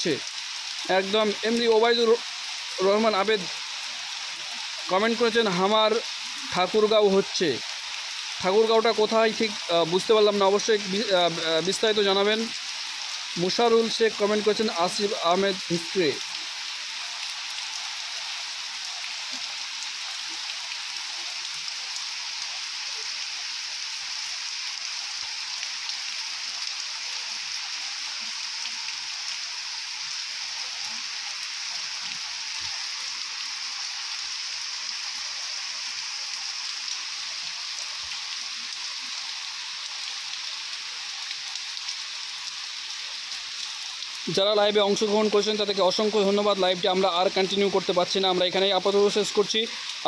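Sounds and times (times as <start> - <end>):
heavy rain hissing: 0.0 - 50.0.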